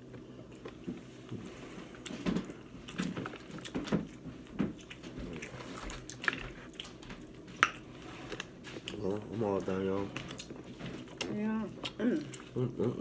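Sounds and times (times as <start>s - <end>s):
chewing and mouth smacks: 0.0s - 9.1s, 10.1s - 13.0s.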